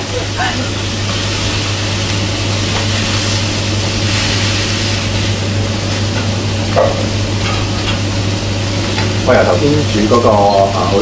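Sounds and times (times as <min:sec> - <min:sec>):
pork sizzling on griddle: 0:00.0 - 0:11.0.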